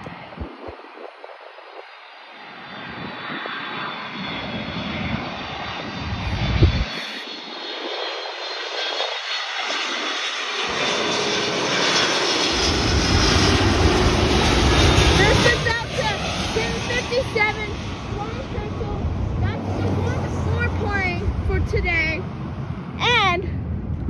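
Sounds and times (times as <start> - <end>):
high engine whine: 0.0 - 24.0
jet airliner passing low: 0.0 - 24.0.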